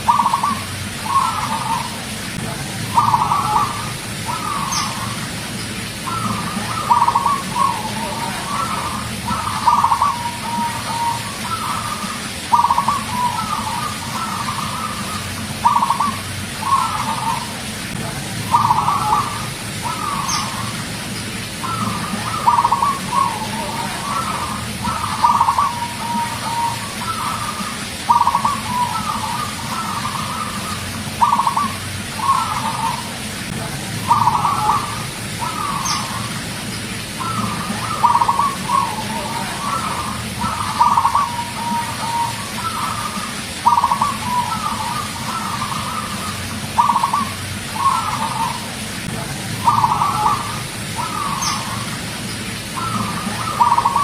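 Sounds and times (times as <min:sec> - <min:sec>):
dove cooing: 0:00.0 - 0:54.0
low background hum: 0:00.0 - 0:54.0.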